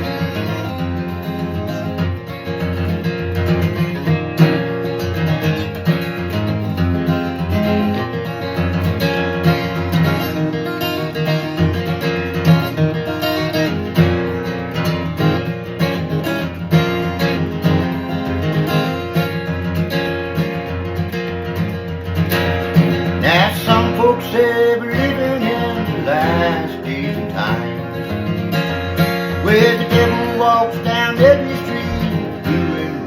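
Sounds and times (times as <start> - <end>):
acoustic guitar strumming and picking: 0.0 - 33.0.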